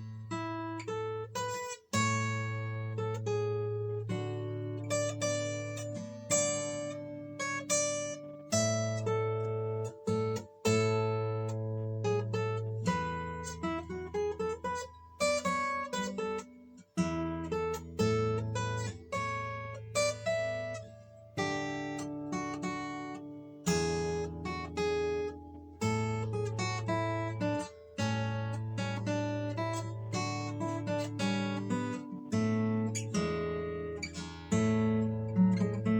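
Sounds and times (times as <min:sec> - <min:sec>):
acoustic guitar chords: 0:00.0 - 0:35.9.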